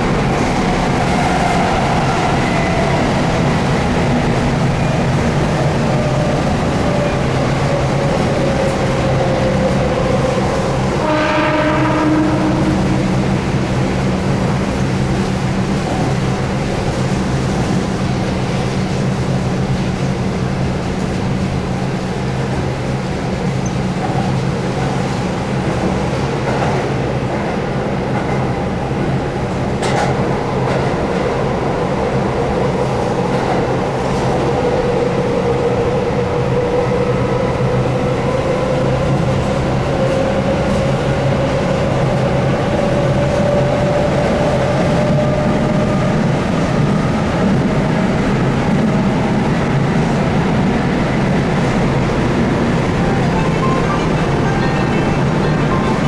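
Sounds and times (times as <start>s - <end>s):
rail noise: 0.0s - 56.0s.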